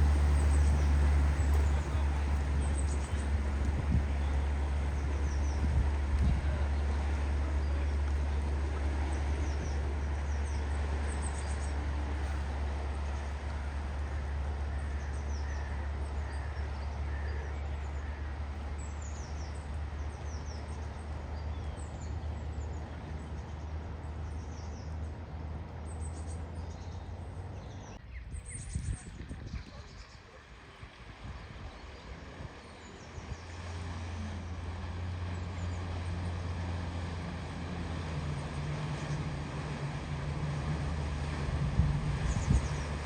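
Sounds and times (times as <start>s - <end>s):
birds chirping: 0.0s - 43.0s
low road rumble: 0.0s - 43.0s.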